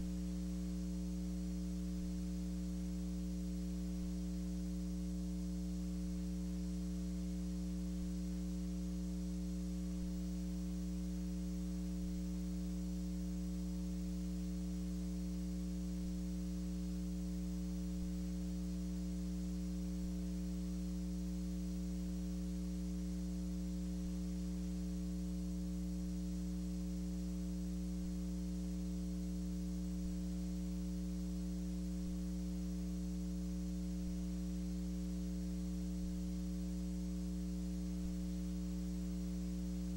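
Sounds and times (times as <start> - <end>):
electrical mains hum: 0.0 - 39.9
faint hiss: 0.0 - 39.9.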